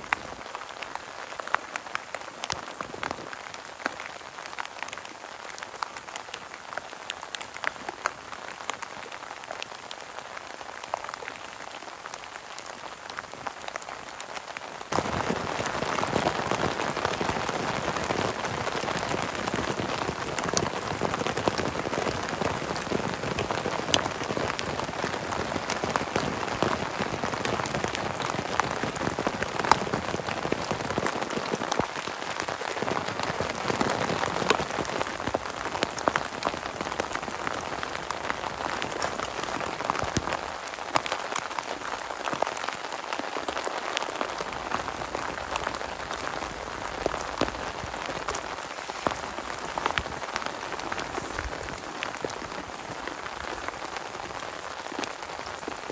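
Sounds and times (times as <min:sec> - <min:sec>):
rain drumming on plastic tarp: 0:00.0 - 0:55.9
steady rain falling: 0:00.0 - 0:55.9.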